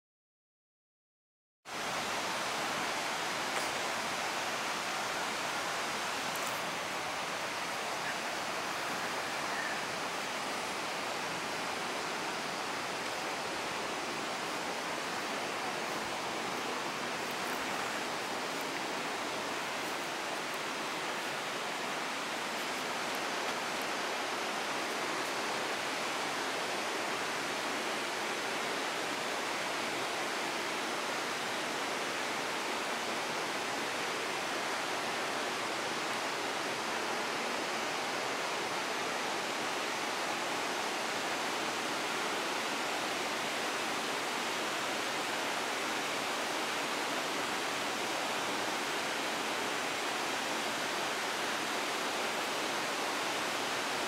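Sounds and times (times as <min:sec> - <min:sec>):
river water rushing: 0:01.7 - 0:54.0.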